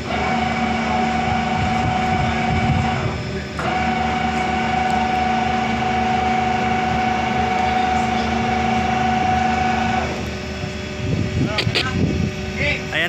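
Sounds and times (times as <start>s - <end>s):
winch motor whining: 0.0s - 13.0s.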